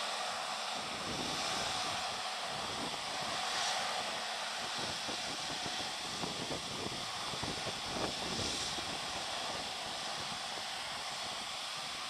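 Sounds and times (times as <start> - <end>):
tractor engine drone: 0.0 - 12.0.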